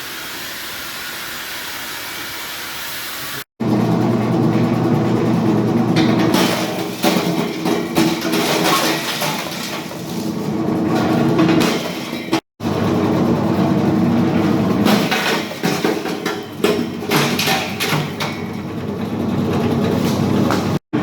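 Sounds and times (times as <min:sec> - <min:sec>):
ice crushing machine running: 0:03.6 - 0:21.0.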